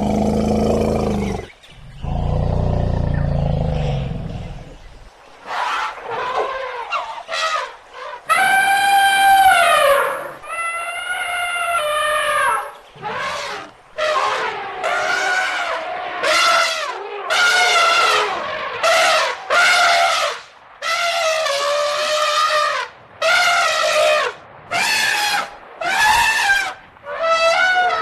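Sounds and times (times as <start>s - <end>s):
elephant trumpeting: 5.5s - 28.0s.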